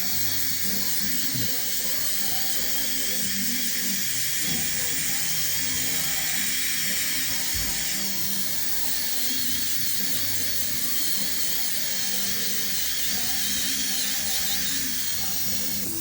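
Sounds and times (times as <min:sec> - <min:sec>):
dental drill high whir: 0:00.0 - 0:16.0.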